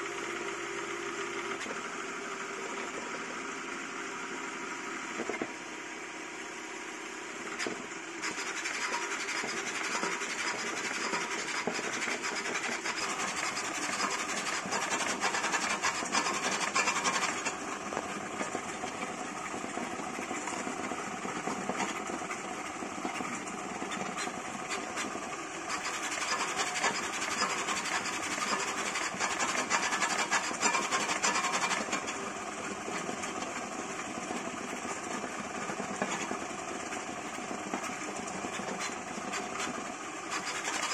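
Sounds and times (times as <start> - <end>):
three d printer buzzing and whining: 1.2 - 5.6, 7.3 - 40.9.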